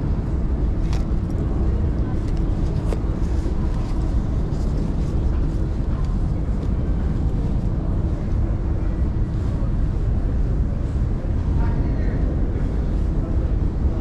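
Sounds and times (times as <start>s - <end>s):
railway station crowd rumble: 0.0s - 14.0s.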